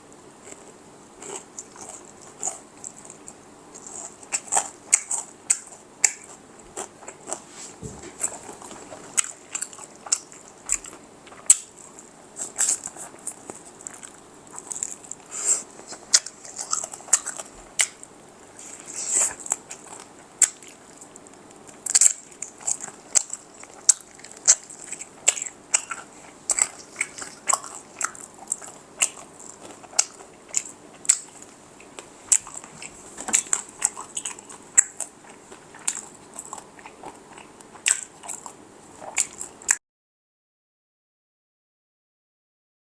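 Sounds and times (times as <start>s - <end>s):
crunchy chewing: 0.1s - 39.8s
wet mouth sounds: 1.3s - 39.8s.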